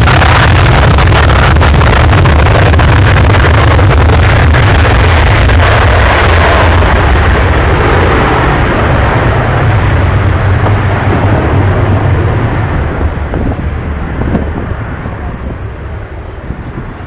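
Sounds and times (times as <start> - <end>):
jet engines roaring at takeoff: 0.0 - 17.0.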